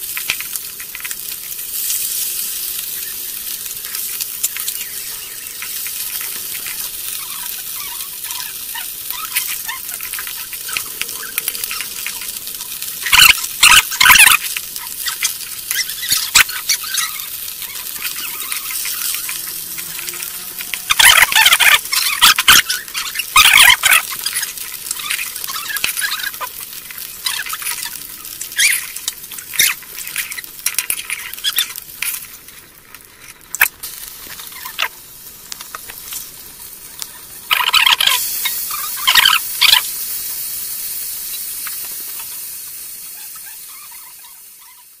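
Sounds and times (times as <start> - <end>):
fish sizzling in oil: 0.0 - 45.0.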